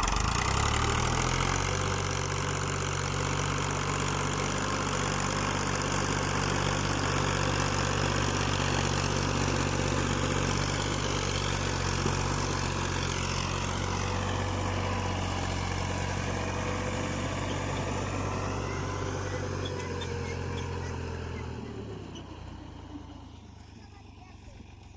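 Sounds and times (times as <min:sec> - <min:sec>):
tractor diesel engine under load: 0:00.0 - 0:24.9.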